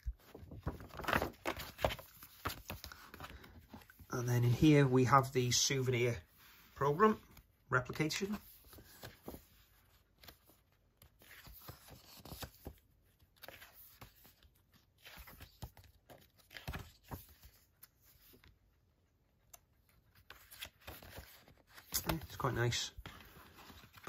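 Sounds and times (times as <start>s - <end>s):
paper pages rustling: 0.0s - 18.7s, 19.4s - 24.0s.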